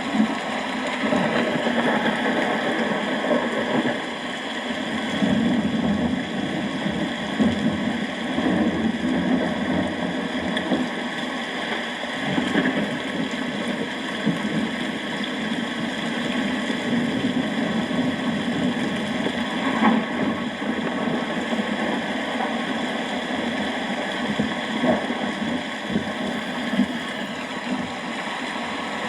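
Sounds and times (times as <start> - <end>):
steady rain: 0.0 - 29.0
low rumble of thunder: 1.0 - 11.1, 12.2 - 27.0.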